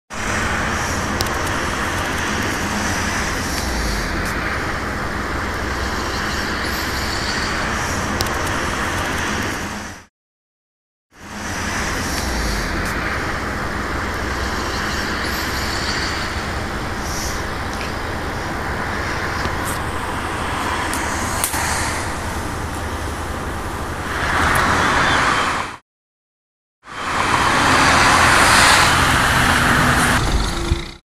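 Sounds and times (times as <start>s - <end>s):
distant city traffic: 0.1s - 10.1s, 11.1s - 25.8s, 26.8s - 31.0s.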